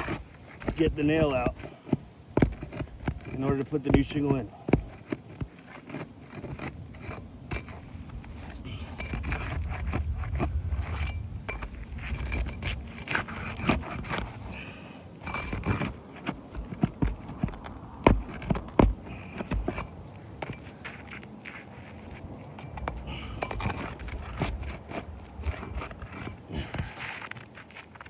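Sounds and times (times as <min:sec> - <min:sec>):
metal tool scraping roof shingles: 0:00.0 - 0:28.0.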